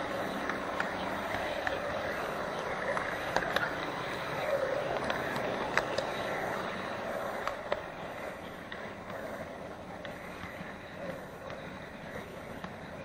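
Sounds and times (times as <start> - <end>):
wheels clicking over rail joints: 0.0 - 13.0.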